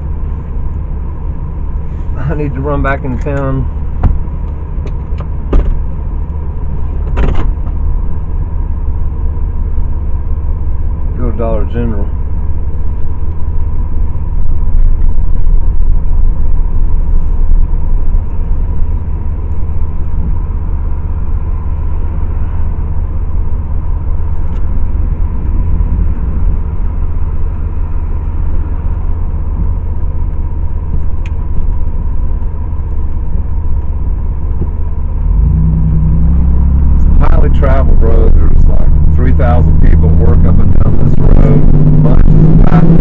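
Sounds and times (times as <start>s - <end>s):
road and engine rumble in car: 0.0s - 43.0s.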